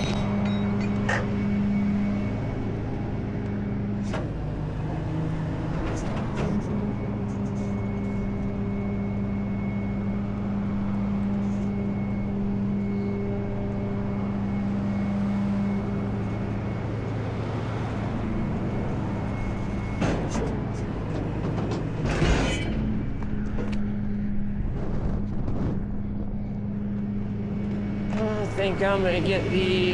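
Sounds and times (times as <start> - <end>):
truck engine humming: 0.0 - 22.1, 22.7 - 29.9.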